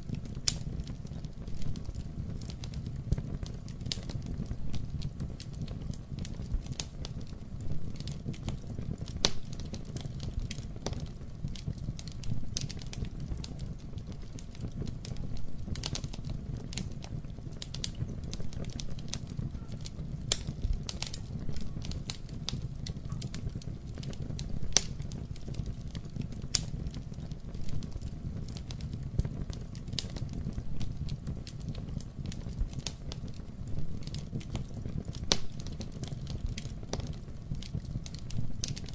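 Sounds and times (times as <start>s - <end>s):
campfire wood crackling: 0.0s - 38.9s
low fire rumble: 0.0s - 38.9s.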